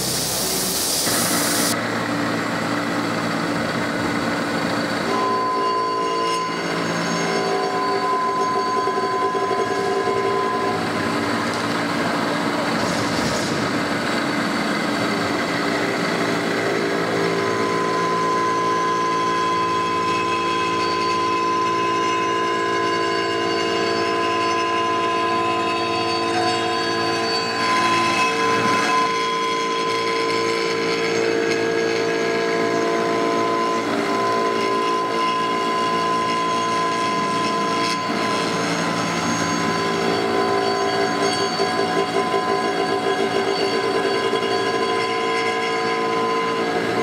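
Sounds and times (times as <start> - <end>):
constant high whine: 0.0 - 47.0
milling machine cutting metal: 0.0 - 47.0.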